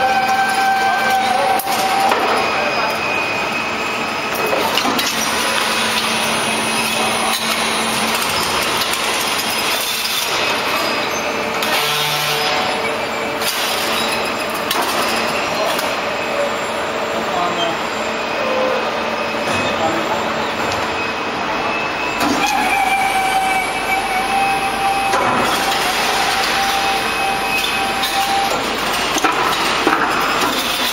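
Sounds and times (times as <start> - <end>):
machinery running: 0.0 - 30.9.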